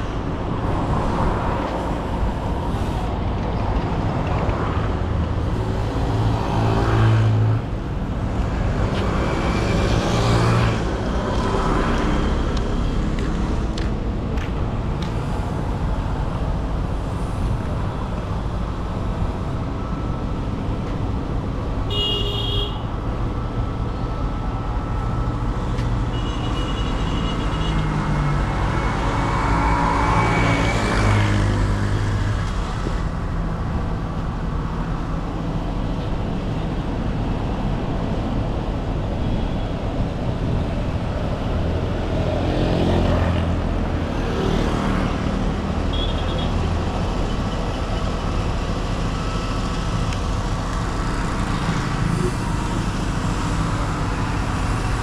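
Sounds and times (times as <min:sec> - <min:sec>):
vehicle engines passing: 0:00.0 - 0:21.9, 0:22.5 - 0:55.0.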